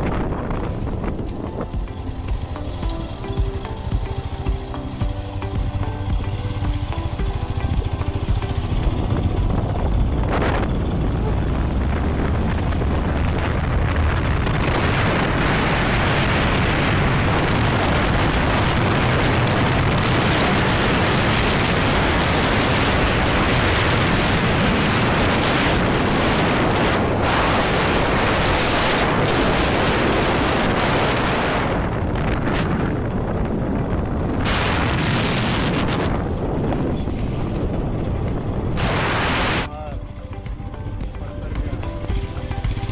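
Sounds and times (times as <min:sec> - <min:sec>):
wind buffeting microphone: 0:00.0 - 0:39.7
road and engine noise: 0:00.0 - 0:42.9.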